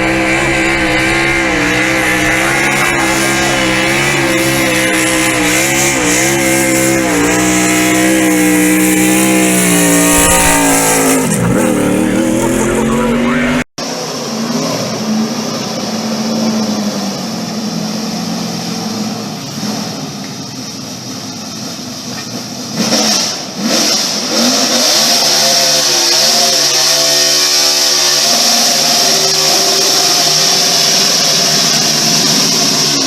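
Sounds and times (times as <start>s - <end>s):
race car engine revving: 0.0s - 20.2s, 22.2s - 33.0s.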